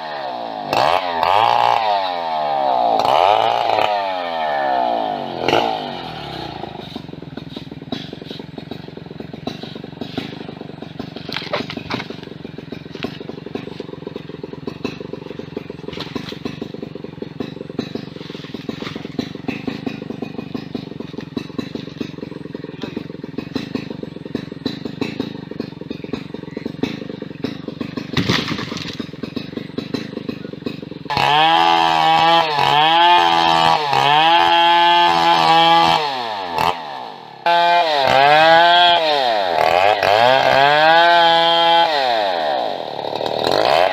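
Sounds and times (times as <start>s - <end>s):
chainsaw engine idling and revving: 0.0s - 43.9s.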